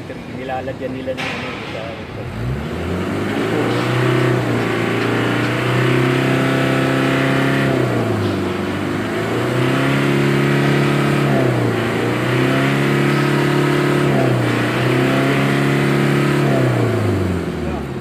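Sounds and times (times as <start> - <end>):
diesel engine revving hard: 2.2 - 18.0.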